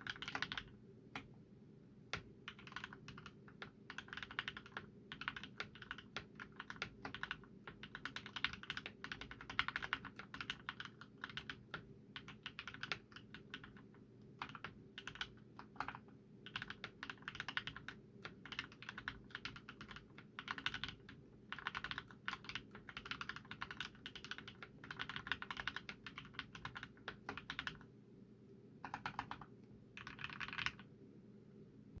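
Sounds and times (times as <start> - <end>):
mechanical keyboard typing: 0.0 - 1.4, 2.1 - 27.9, 28.8 - 30.9.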